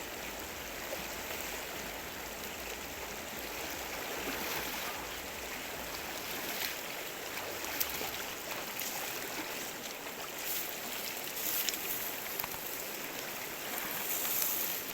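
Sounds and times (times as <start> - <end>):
stream water flowing: 0.0 - 14.9.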